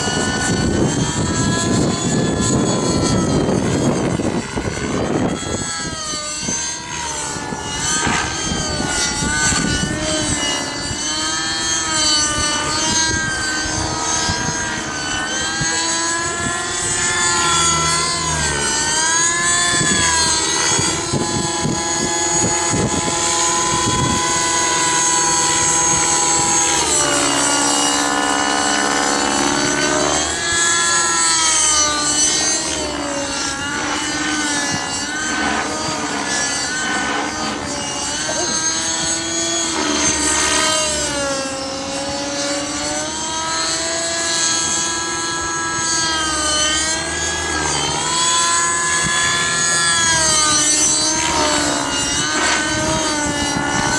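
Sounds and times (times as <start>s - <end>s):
model helicopter engine and rotors: 0.0s - 53.9s
wind rumbling on microphone: 0.0s - 53.9s.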